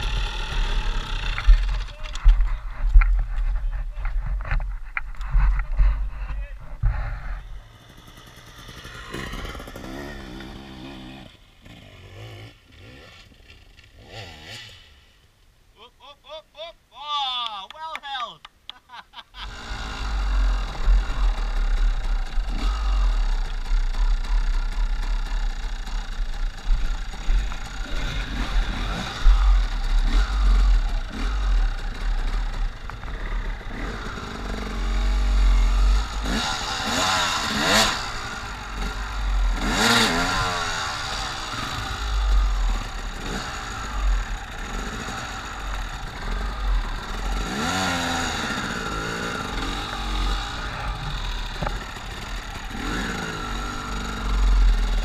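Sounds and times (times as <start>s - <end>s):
dirt bike engines revving: 0.0s - 15.1s, 19.3s - 55.0s.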